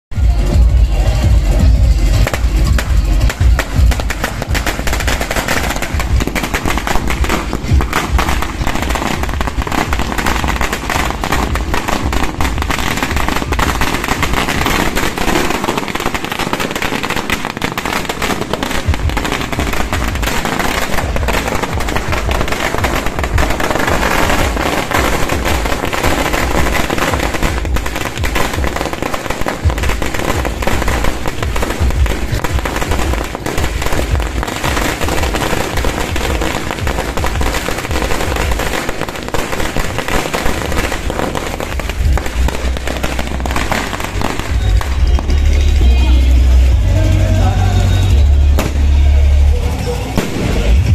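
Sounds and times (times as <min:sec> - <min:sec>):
loud music: 0:00.1 - 0:50.9
firecrackers popping: 0:00.2 - 0:50.9.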